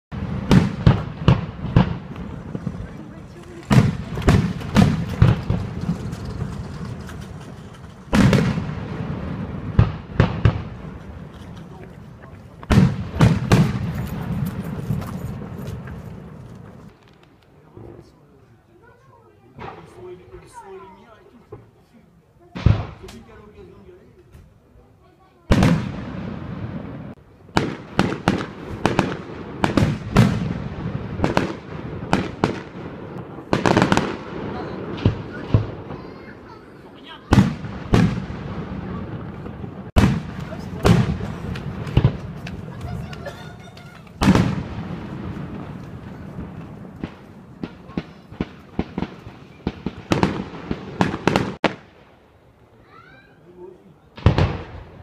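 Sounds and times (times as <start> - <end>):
fireworks bursting: 0.1 - 53.4, 54.1 - 55.0.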